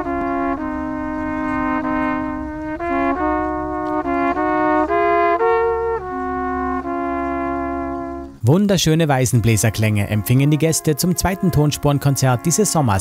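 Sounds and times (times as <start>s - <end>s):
brass horns playing folk tune: 0.0s - 13.0s.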